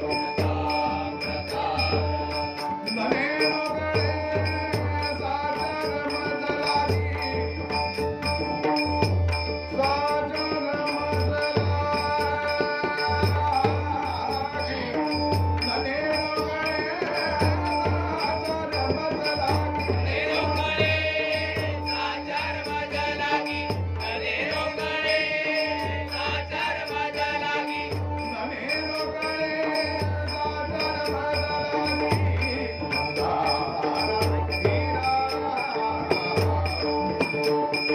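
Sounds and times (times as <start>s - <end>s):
rattling percussion: 0.0s - 37.9s.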